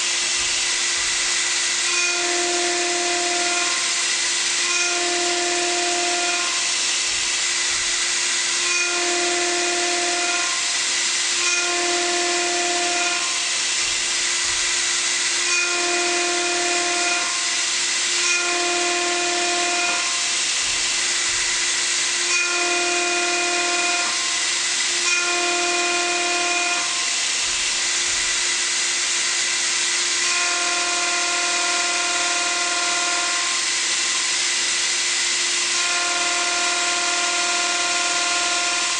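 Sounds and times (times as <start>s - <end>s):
grinding wheel hissing on steel: 0.0s - 38.9s.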